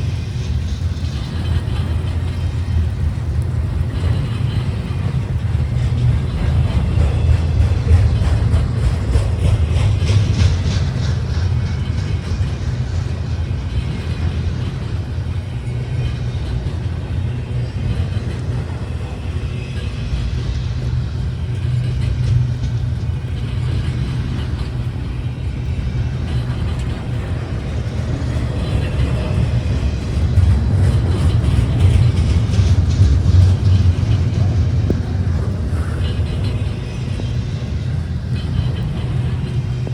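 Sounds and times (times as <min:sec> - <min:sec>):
moving train rumble: 0:00.0 - 0:39.9.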